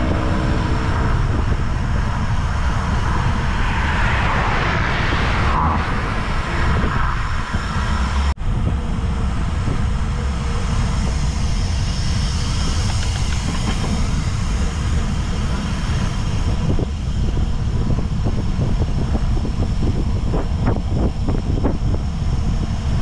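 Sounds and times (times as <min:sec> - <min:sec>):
tyre and road noise: 0:00.0 - 0:23.0
wind rushing over microphone: 0:00.0 - 0:23.0.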